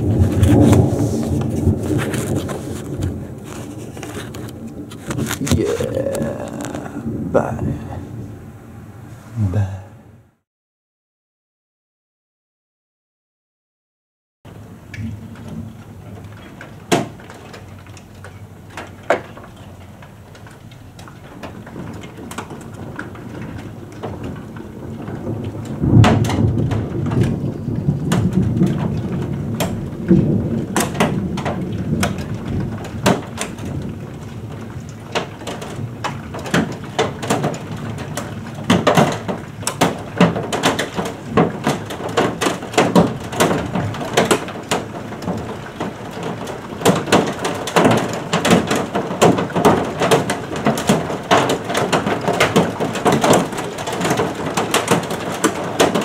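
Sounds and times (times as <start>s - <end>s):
raindrops tapping near microphone: 0.0s - 8.4s, 14.5s - 56.0s
thunder rumbling: 0.0s - 10.2s, 21.2s - 56.0s
heavy rain: 0.0s - 10.4s, 14.5s - 56.0s.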